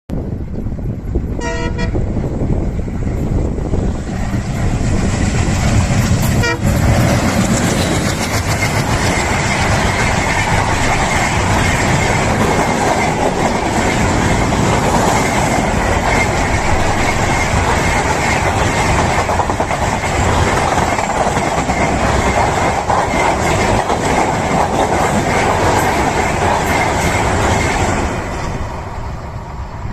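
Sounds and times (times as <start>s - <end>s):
train wheels rumbling on rails: 0.1s - 29.9s.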